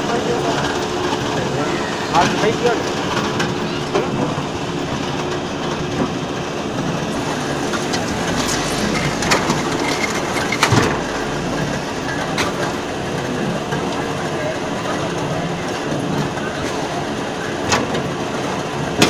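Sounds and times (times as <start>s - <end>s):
block making machine clatter: 2.2s - 19.0s.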